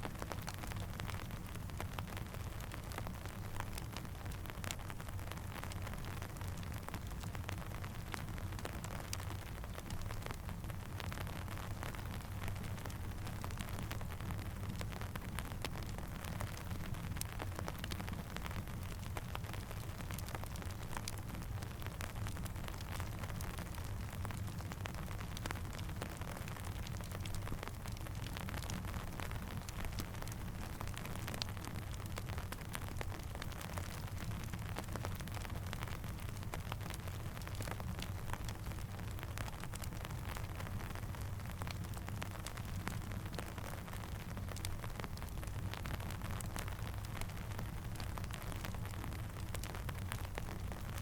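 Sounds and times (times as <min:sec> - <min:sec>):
steady rain: 0:00.0 - 0:51.0
campfire crackling: 0:00.1 - 0:51.0.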